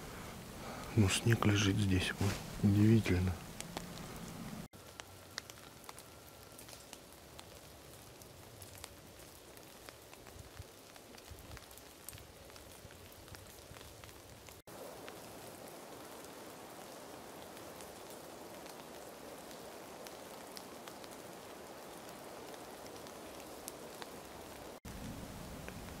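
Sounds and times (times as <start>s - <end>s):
snowmelt dripping patter: 0.0s - 26.0s.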